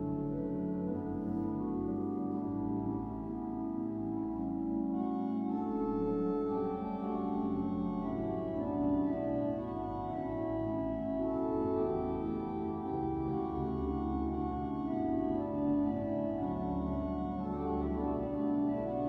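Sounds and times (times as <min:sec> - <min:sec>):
pipe organ chords: 0:00.0 - 0:19.0.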